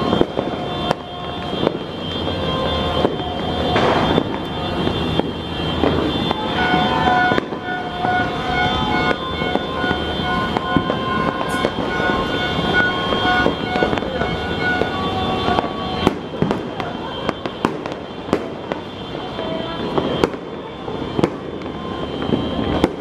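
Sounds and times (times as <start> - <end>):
fireworks bangs and crackles: 0.0 - 23.0
long steady high tones: 0.0 - 23.0.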